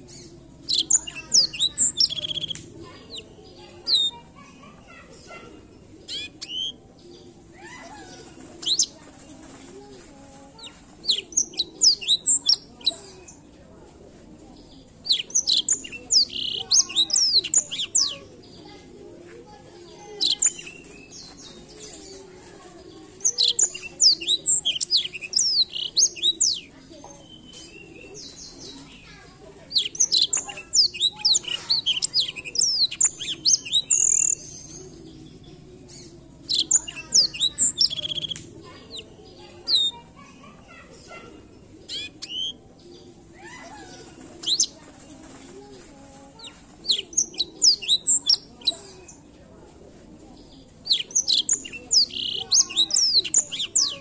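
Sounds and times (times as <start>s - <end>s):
canary singing: 0.0s - 13.4s, 14.6s - 49.2s, 50.4s - 54.0s.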